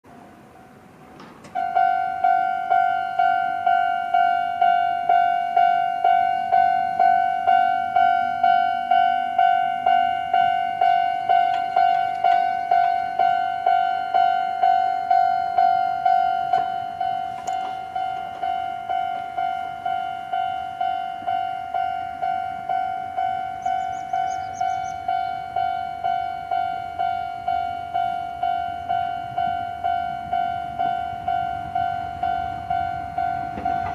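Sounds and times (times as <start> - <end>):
level-crossing electronic bell: 1.6 - 33.9.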